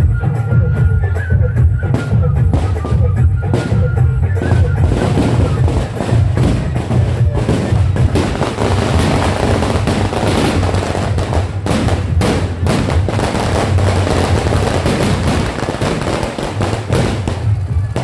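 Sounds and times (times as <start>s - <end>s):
firecrackers popping: 1.9s - 18.0s.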